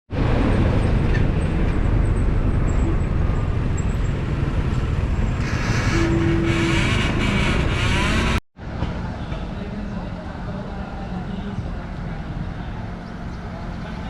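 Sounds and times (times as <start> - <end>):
low vehicle rumble: 0.1 - 14.0.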